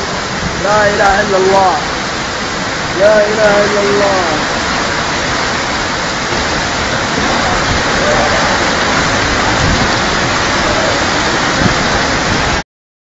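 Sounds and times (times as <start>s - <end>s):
heavy rain pouring: 0.0s - 12.6s
rushing water: 0.0s - 12.6s.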